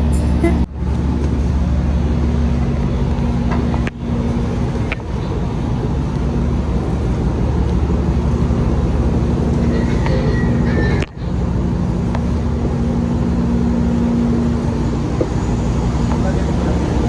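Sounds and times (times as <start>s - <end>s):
road noise: 0.0s - 17.0s
vehicle engine drone from inside: 0.0s - 17.0s.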